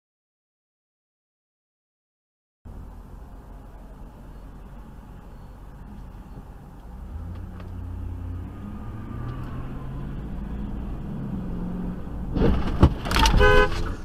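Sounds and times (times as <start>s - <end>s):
car engine and road noise: 2.7s - 14.0s.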